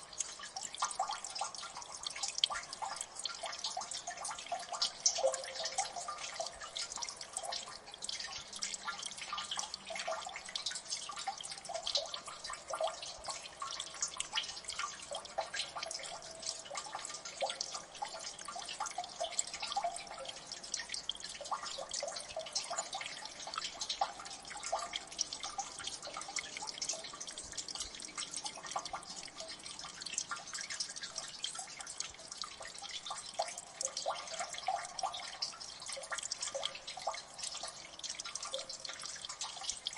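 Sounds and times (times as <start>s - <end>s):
water dripping: 0.0s - 39.9s.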